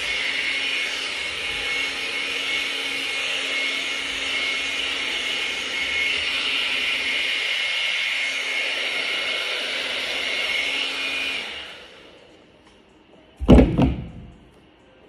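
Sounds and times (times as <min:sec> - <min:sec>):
hair dryer running: 0:00.0 - 0:12.6.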